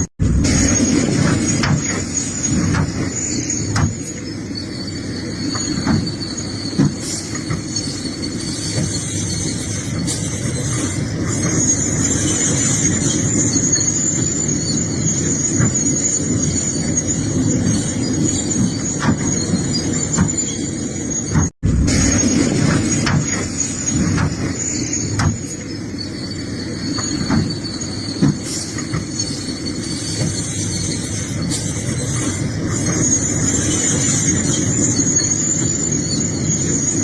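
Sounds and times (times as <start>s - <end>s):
high metallic squeal: 0.0s - 37.0s.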